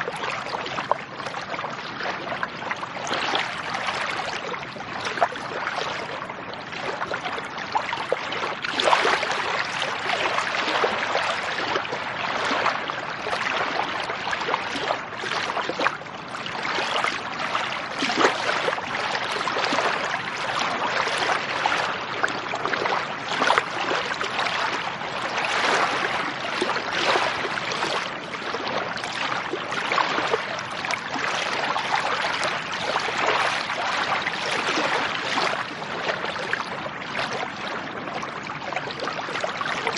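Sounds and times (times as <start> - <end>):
lake water lapping and splashing: 0.0 - 39.9.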